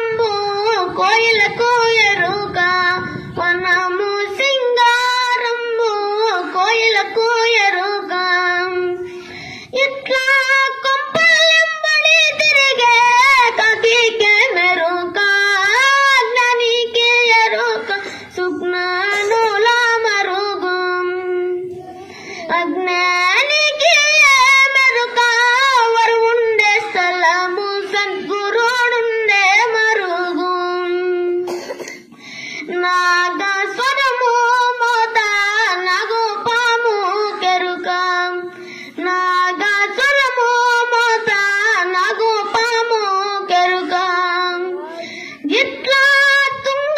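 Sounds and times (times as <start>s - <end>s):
boy singing unaccompanied: 0.0s - 31.8s, 32.6s - 46.9s.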